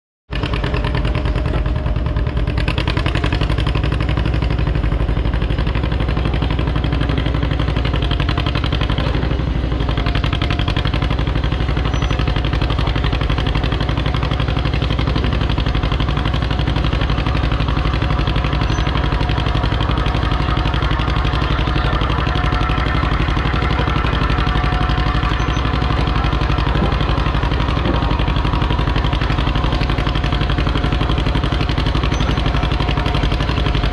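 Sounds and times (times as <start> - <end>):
engine idling: 0.3 - 33.9.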